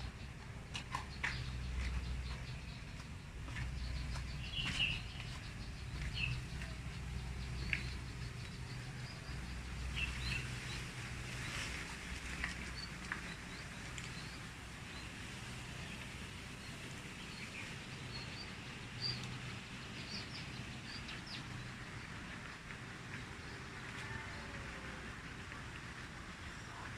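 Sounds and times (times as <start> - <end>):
birds chirping: 0.0 - 22.6
low steady hum: 0.0 - 26.9.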